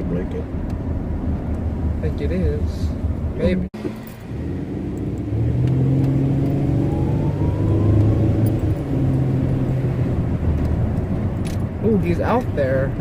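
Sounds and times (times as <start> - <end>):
car engine accelerating: 0.0 - 13.0
road and wind noise: 0.0 - 13.0.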